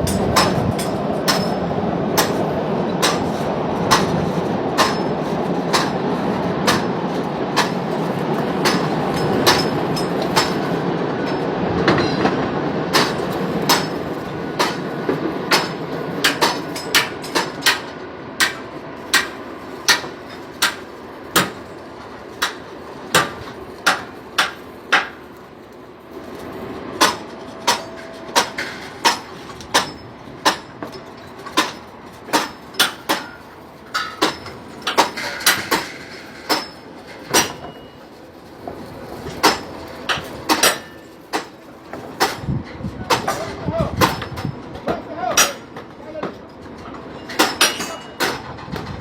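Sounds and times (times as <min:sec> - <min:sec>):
steady background noise: 0:00.0 - 0:49.0.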